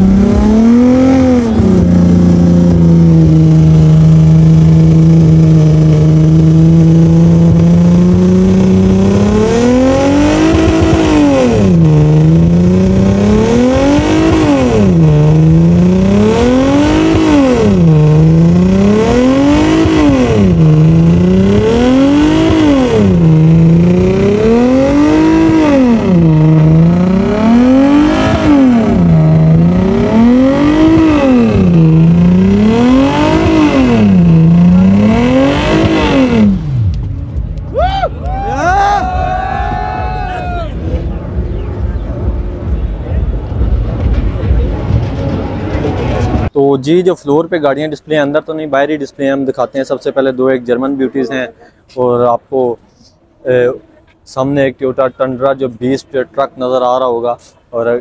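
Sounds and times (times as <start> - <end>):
car engine revving: 0.0 - 46.5.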